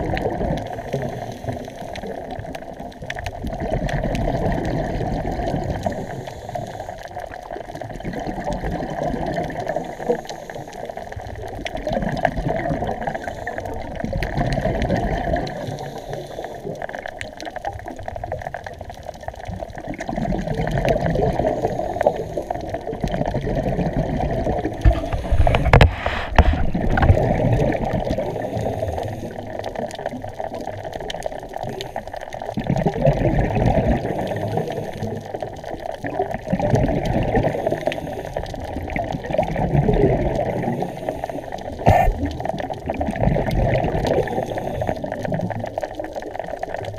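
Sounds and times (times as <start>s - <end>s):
underwater bubbling: 0.0s - 46.9s.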